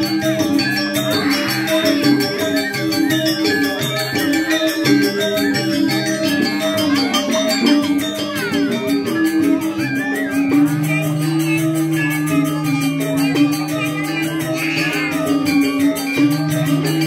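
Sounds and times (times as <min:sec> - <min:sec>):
small cymbals clashing: 0:00.0 - 0:17.0
struck bronze gamelan melody: 0:00.0 - 0:17.0.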